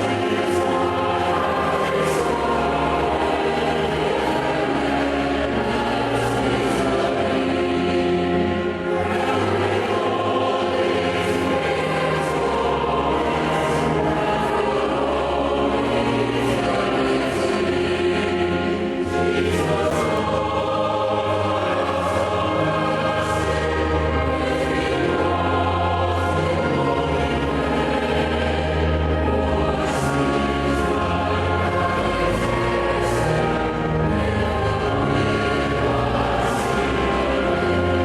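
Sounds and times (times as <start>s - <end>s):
choir singing a hymn: 0.0s - 38.0s
instrumental accompaniment: 0.0s - 38.0s.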